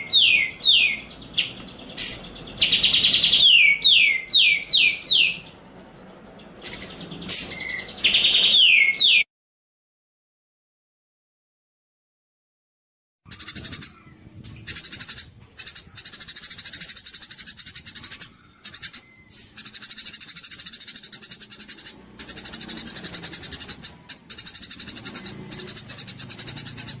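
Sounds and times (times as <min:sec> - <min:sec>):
songbird ticking chatter: 0:00.0 - 0:09.2, 0:13.3 - 0:27.0.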